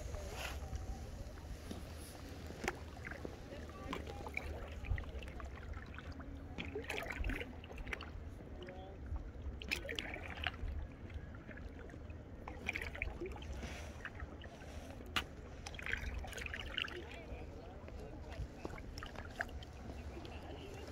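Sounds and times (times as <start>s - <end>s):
kayak paddle splashing in water: 0.3s - 8.3s, 9.5s - 20.9s.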